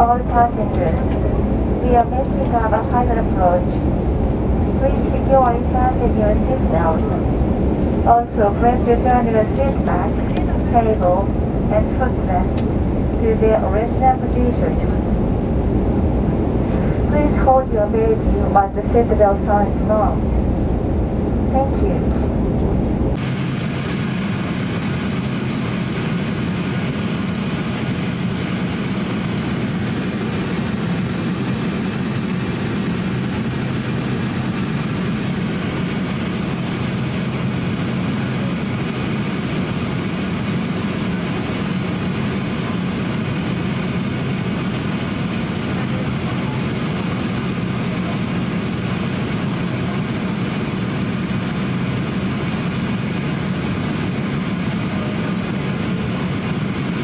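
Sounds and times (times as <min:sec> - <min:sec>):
airliner cabin engine hum: 0:00.0 - 0:57.0.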